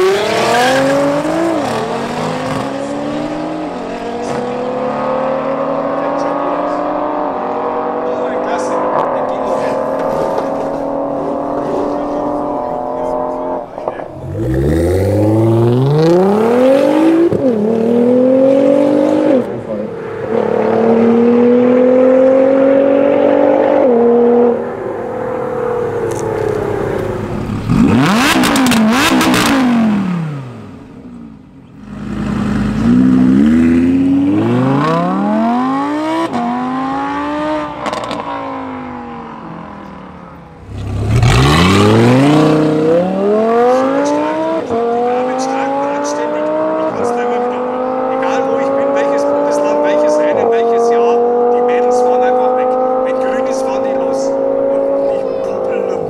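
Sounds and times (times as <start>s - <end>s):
sports car engines accelerating: 0.0s - 56.0s.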